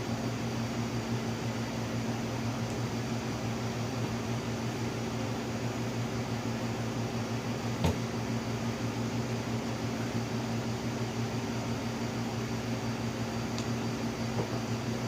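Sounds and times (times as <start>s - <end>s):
blow dryer running: 2.1s - 15.0s.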